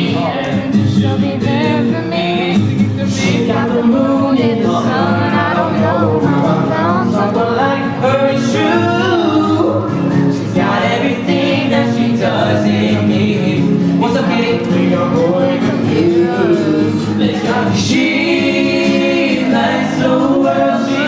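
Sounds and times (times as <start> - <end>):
group of voices singing: 0.0 - 21.0.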